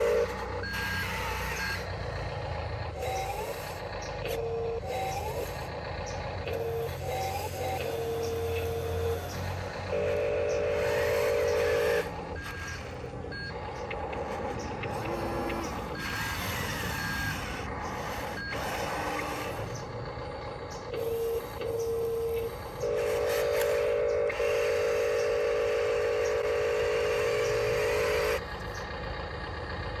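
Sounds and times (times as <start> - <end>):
toy electric drive noise: 0.0 - 29.2.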